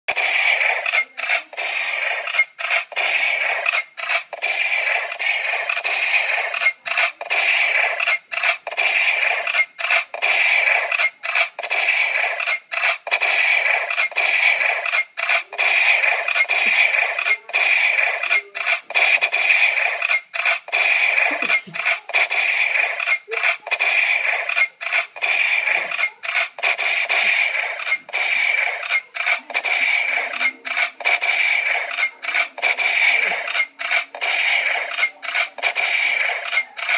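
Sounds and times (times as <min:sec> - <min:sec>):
toy gun electronic blare: 0:00.1 - 0:36.9.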